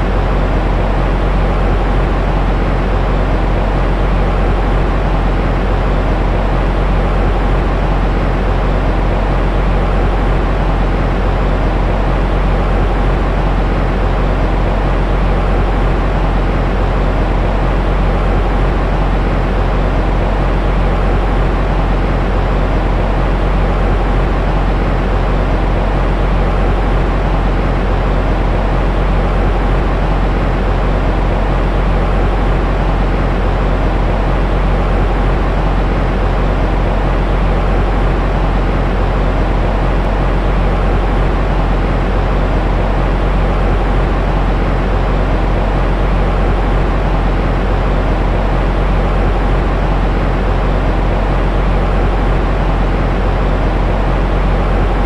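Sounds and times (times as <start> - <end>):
white noise hiss with low rumble: 0.0 - 55.0.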